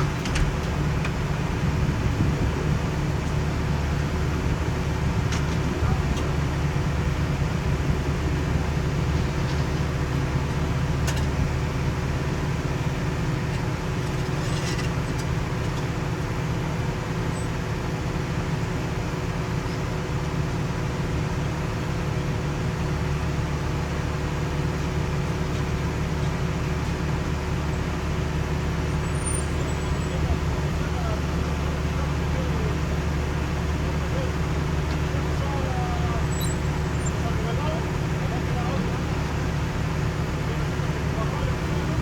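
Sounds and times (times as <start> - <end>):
diesel engines droning: 0.0 - 42.0.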